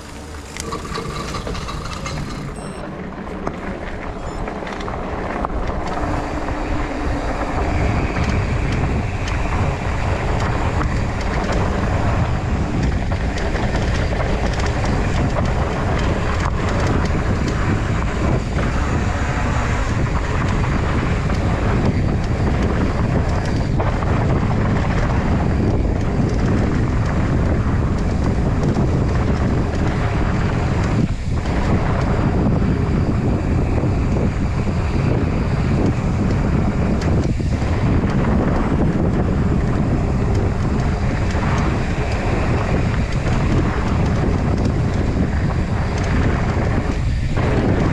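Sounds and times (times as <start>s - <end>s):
bike tyres rolling on dirt: 0.0s - 47.9s
wind on microphone: 0.0s - 47.9s.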